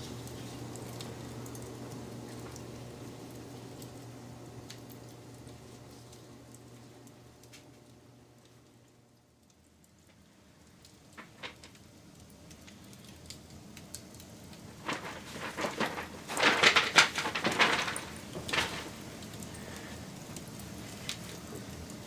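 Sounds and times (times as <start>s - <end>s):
wood campfire crackling: 0.0s - 22.0s.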